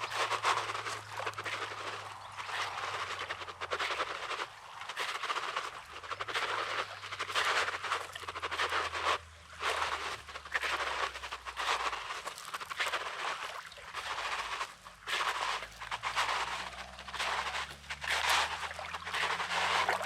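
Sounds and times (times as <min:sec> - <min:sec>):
waves washing over pebbles: 0:00.1 - 0:20.0.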